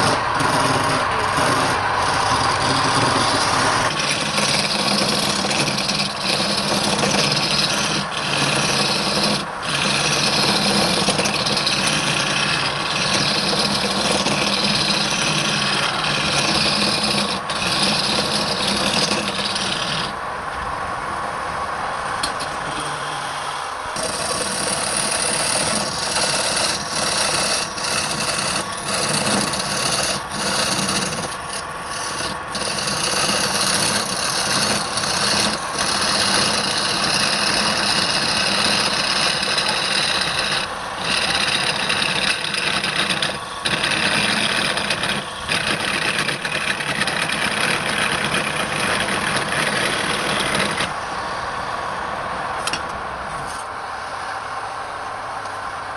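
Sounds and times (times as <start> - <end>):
lathe tool scraping spinning wood: 0.0 - 20.2, 22.2 - 51.2.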